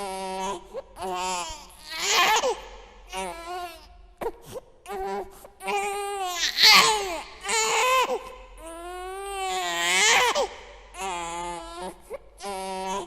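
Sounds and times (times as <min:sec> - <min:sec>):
infant crying: 0:00.0 - 0:03.9, 0:04.9 - 0:13.0.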